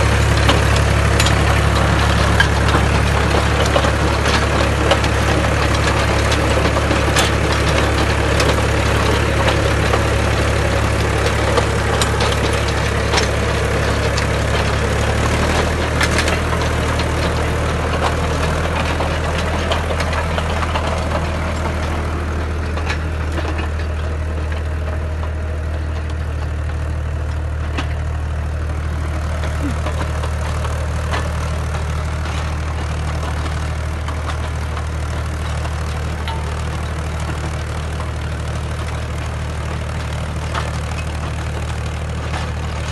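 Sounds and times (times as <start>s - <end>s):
harrow rattling through stony soil: 0.0s - 42.9s
tractor diesel engine running: 0.0s - 42.9s.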